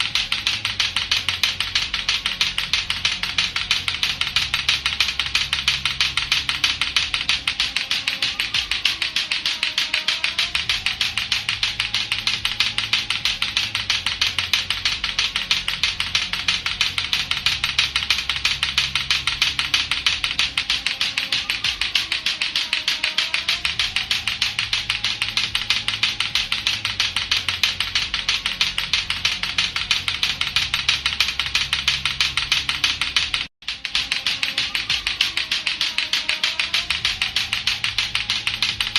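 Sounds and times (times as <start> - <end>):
plastic clacker balls clacking: 0.0 - 38.9.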